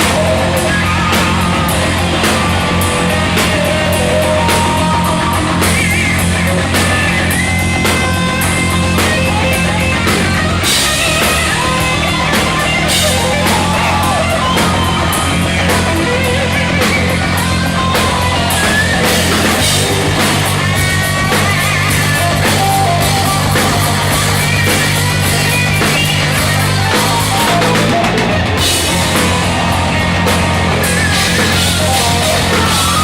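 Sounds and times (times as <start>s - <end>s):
electric guitar line: 0.0s - 33.0s
heavy rock band playing: 0.0s - 33.0s.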